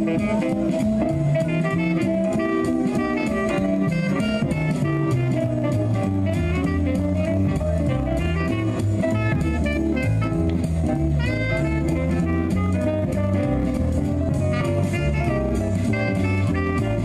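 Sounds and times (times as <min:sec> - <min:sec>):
bass line: 0:00.0 - 0:17.0
drum kit: 0:00.0 - 0:17.0
guitar: 0:00.0 - 0:17.0
saxophones playing: 0:00.0 - 0:17.0.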